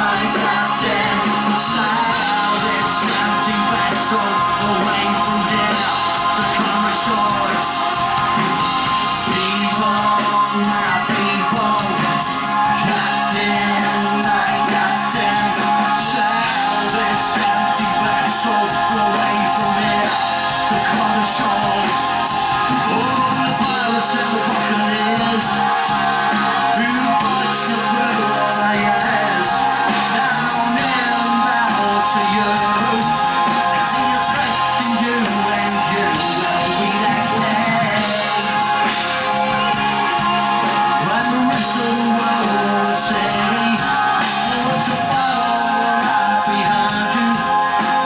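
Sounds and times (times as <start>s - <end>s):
guitar: 0.0s - 48.0s
person singing: 0.0s - 48.0s
rock band playing live: 0.0s - 48.0s.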